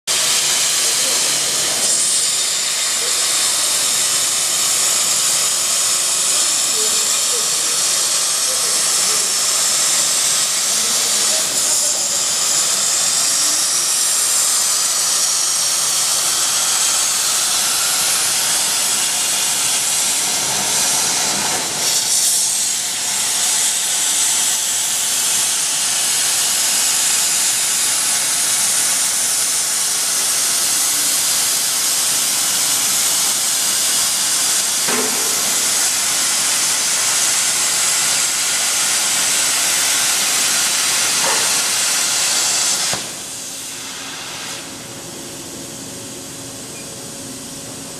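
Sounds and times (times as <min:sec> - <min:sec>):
plasma cutting torch hissing: 0:00.1 - 0:47.9.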